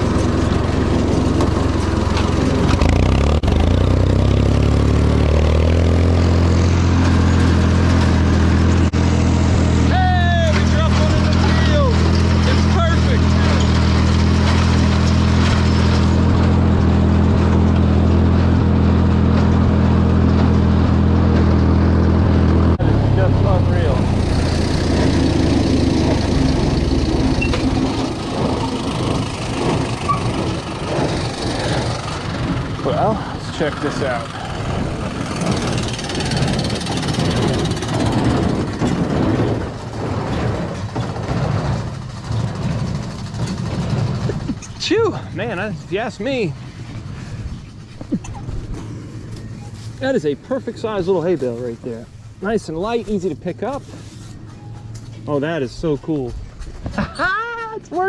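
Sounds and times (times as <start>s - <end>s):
tractor engine running under load: 0.0s - 56.5s.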